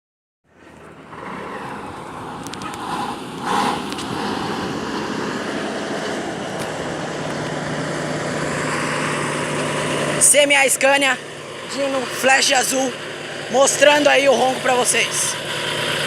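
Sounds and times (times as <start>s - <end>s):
coach diesel engine running: 0.5s - 16.0s
street traffic noise: 0.5s - 16.0s.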